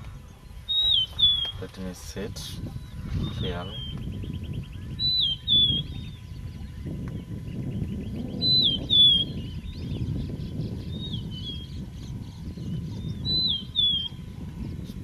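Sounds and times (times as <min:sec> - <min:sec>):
steady low rumbling: 0:00.0 - 0:15.0
bird singing trills and whistles: 0:00.2 - 0:01.7, 0:02.5 - 0:14.9.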